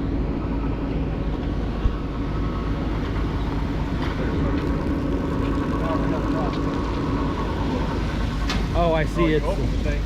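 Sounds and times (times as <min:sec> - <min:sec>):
fire truck engine running: 0:00.0 - 0:10.0.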